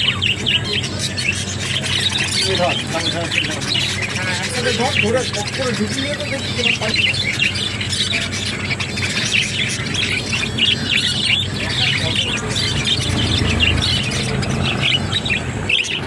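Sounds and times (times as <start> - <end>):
low steady hum: 0.0 - 16.0
small birds chirping: 0.0 - 16.0.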